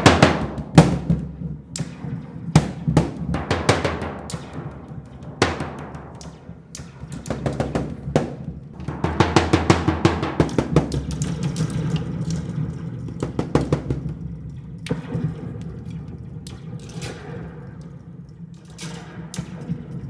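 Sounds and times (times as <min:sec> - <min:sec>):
drum strikes and rolls: 0:00.0 - 0:17.8.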